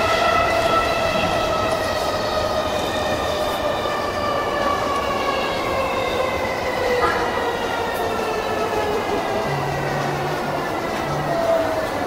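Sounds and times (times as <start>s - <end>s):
train rail running noise: 0.0s - 12.0s.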